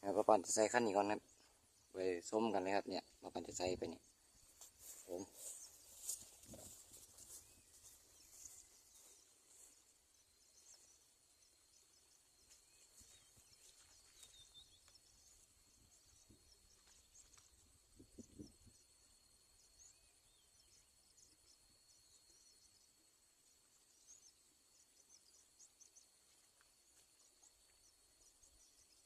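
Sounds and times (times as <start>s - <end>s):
crickets chirping: 0.3s - 29.0s.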